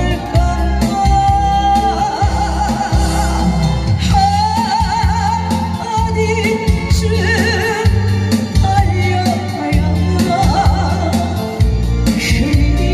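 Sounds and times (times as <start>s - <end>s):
instrumental accompaniment with beat: 0.0s - 12.9s
woman singing with vibrato: 0.0s - 12.9s.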